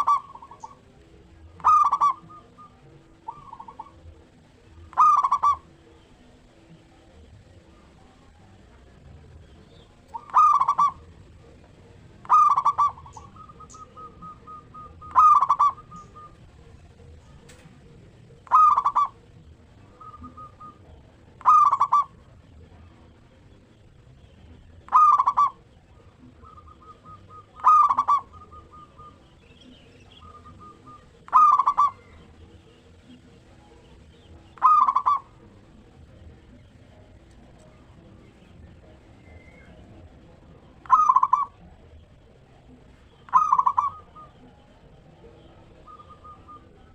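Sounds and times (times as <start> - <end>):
dove cooing phrase: 0.0 - 23.7, 24.7 - 46.9.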